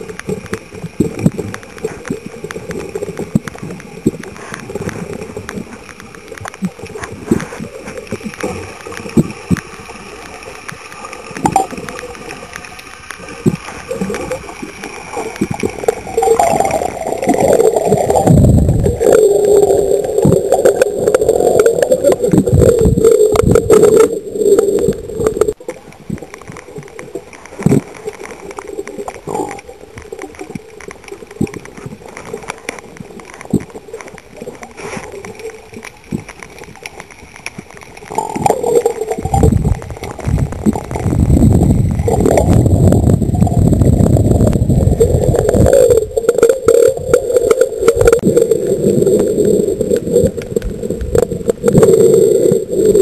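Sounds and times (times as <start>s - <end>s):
steady water rushing: 0.0s - 53.0s
water gurgling and sloshing: 0.0s - 53.0s.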